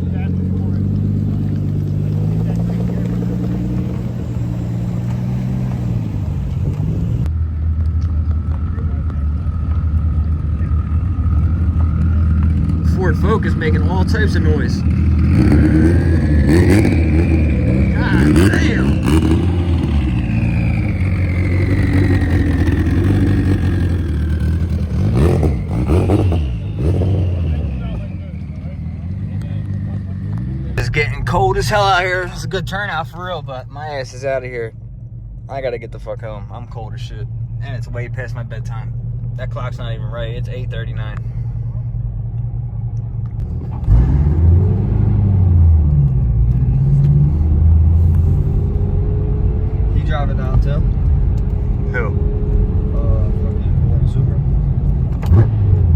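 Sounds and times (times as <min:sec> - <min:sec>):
car engine running: 0:00.0 - 0:44.0, 0:45.6 - 0:55.9.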